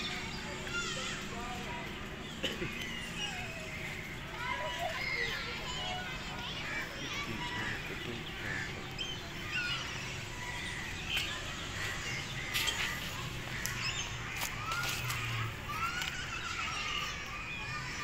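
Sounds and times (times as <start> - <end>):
birds chirping: 0.0 - 18.0
children's voices: 0.0 - 18.0
distant people talking: 0.0 - 18.0.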